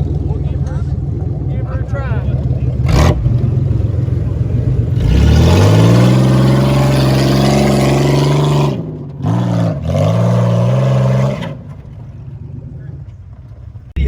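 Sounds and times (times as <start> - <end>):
car engine revving hard: 0.0 - 11.9.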